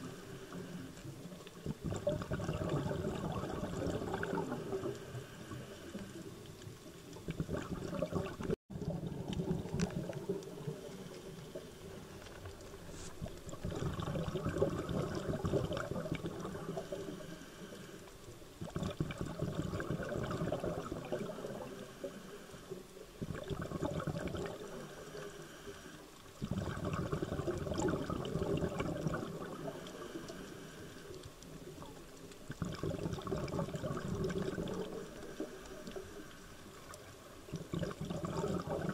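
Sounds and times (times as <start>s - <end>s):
underwater exhaled bubbles: 0.0s - 38.9s.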